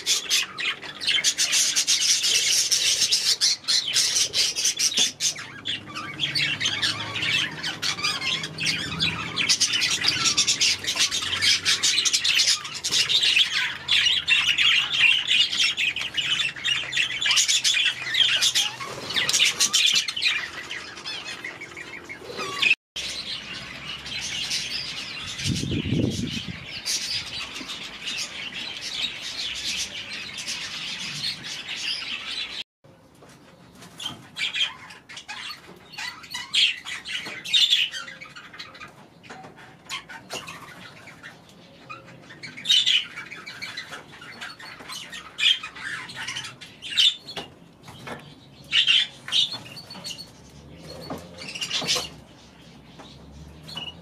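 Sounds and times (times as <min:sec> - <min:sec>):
small birds chirping and chattering: 0:00.0 - 0:54.0.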